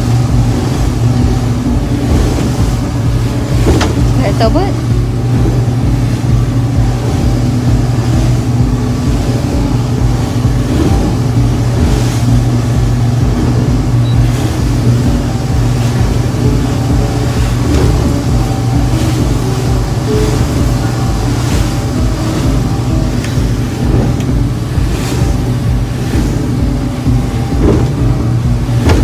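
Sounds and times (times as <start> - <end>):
motorboat engine droning: 0.0 - 29.0
water rushing along hull: 0.0 - 29.0.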